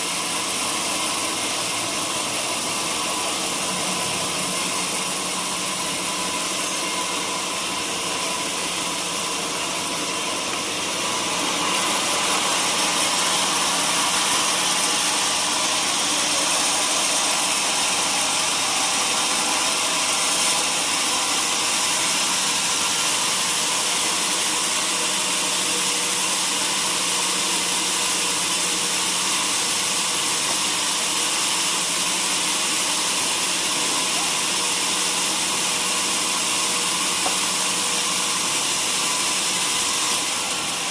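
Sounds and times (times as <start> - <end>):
sawmill machinery hiss: 0.0 - 40.9.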